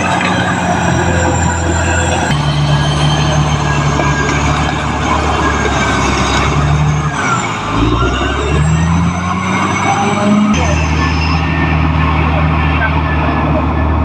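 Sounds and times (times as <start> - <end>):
bulldozer diesel engine under load: 0.0 - 14.0
engine whine: 0.0 - 14.0.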